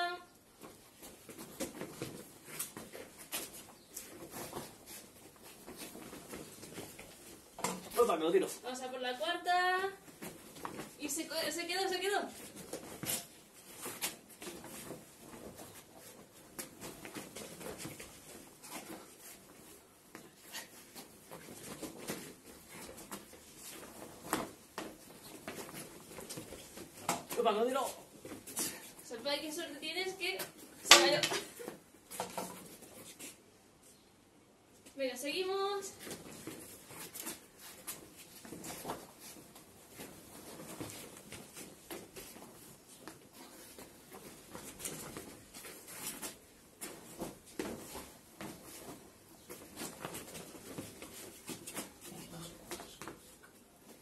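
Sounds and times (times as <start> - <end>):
people crawling on tiled floor: 0.0 - 8.0, 9.4 - 29.3, 30.0 - 33.5, 35.8 - 54.0
uniform fabric rustling: 0.3 - 34.0, 35.5 - 54.0.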